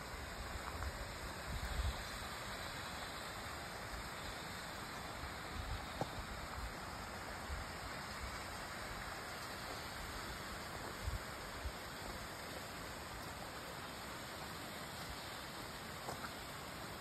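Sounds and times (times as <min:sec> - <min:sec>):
stream splashing over rocks: 0:00.0 - 0:17.0.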